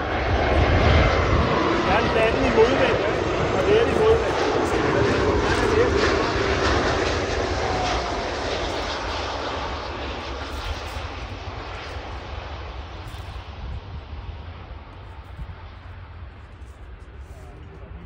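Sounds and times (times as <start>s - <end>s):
jet airliner landing: 0.0s - 18.0s.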